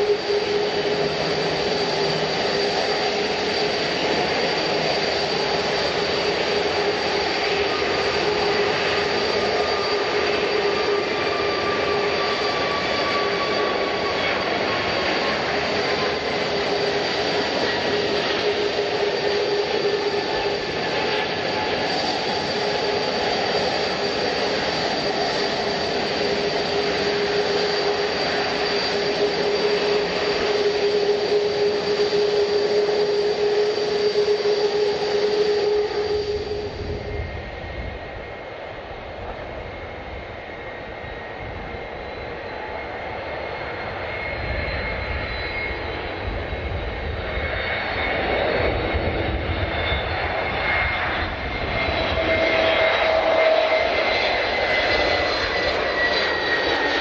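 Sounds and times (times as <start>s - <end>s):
jet engines running: 0.0s - 57.0s
steady engine whine: 0.0s - 57.0s.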